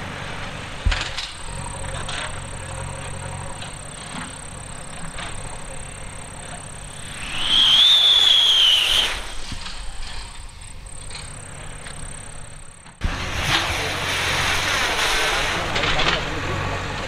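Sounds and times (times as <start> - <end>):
firework whistling with hiss: 0.7 - 12.4, 13.0 - 15.8.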